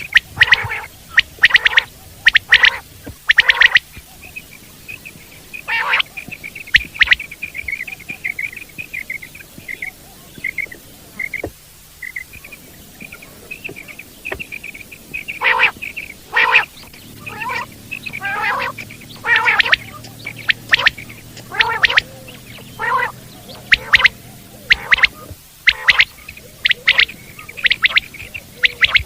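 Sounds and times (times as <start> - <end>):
high chirps: 0.0 - 29.0
quail calling: 0.0 - 29.0.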